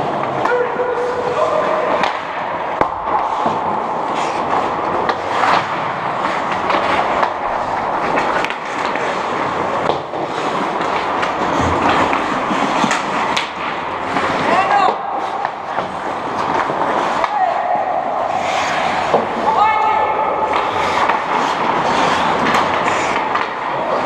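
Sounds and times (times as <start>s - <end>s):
hockey sticks and puck clacking: 0.0s - 24.0s
skates scraping on ice: 0.0s - 24.0s.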